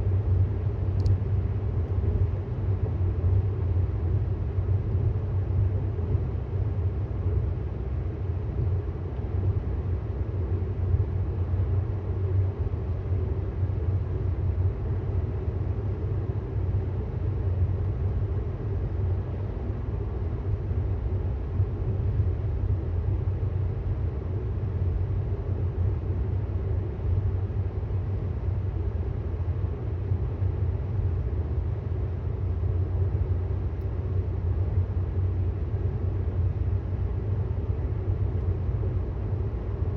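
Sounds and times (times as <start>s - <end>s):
road and tyre noise in car: 0.0s - 39.9s.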